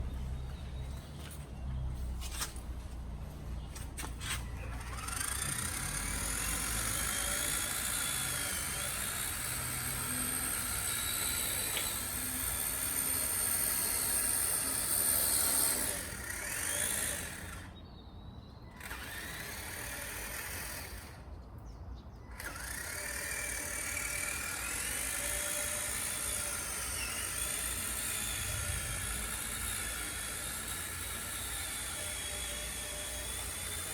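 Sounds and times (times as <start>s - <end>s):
electric motor and gear whine: 0.0s - 21.3s, 22.3s - 33.9s.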